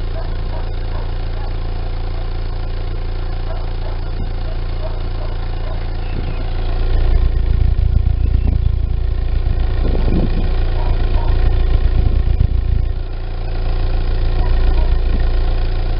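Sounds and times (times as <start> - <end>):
car engine misfiring: 0.0 - 15.9.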